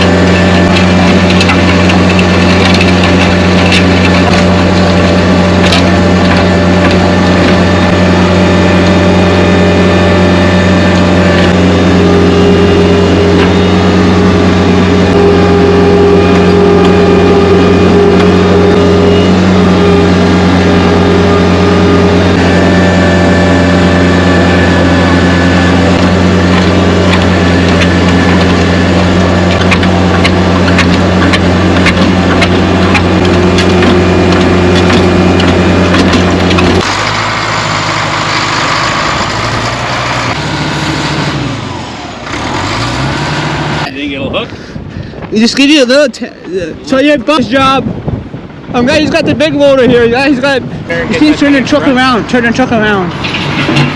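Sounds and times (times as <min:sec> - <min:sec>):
heavy machine engine running: 0:00.0 - 0:53.9.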